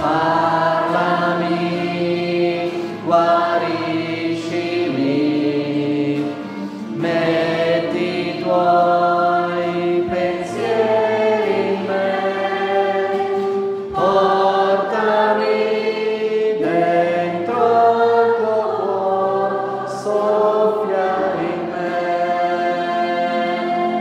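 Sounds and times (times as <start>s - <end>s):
choir singing sustained chords: 0.0s - 24.0s.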